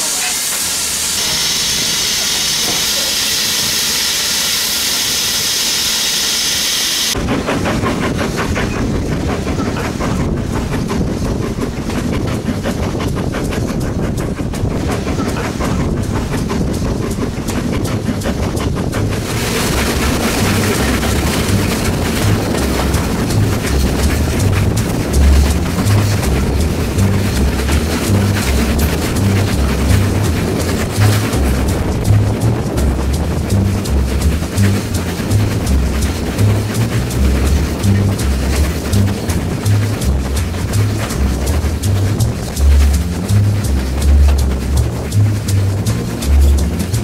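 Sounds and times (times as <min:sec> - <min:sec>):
steam locomotive hissing steam: 0:00.0 - 0:44.2
train clicking on rails: 0:00.0 - 0:47.0
low rumble with uneven beats: 0:07.1 - 0:47.0.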